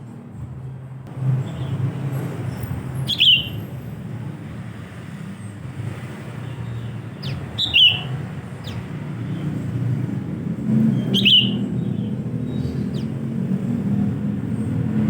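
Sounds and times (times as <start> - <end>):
bird chirping calls: 1.3 - 3.9, 5.0 - 15.0.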